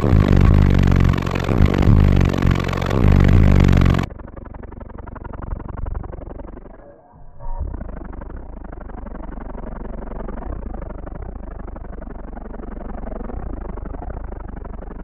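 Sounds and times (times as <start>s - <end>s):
loud electronic music with deep bass: 0.0s - 4.1s, 5.1s - 15.0s.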